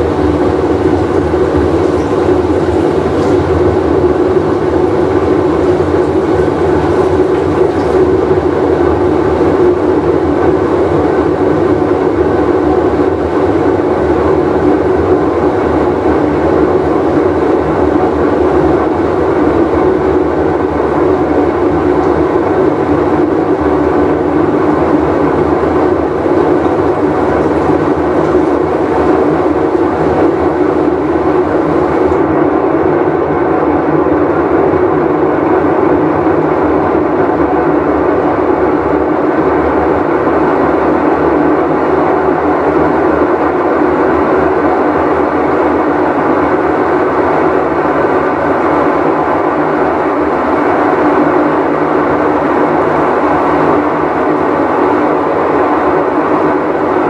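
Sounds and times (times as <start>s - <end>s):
washing machine rumbling: 0.0s - 57.0s.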